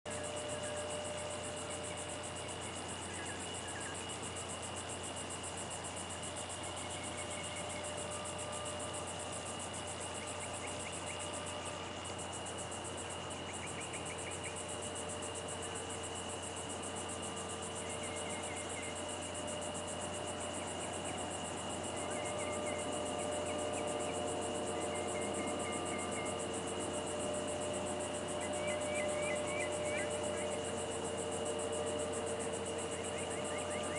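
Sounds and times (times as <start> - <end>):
insects droning: 0.0 - 33.9
rapid insect chirps: 0.1 - 33.9.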